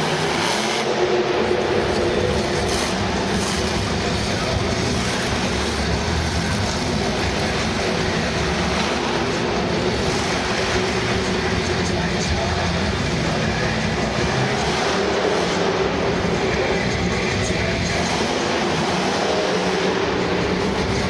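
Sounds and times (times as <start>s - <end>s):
monster truck engine running: 0.0s - 21.0s.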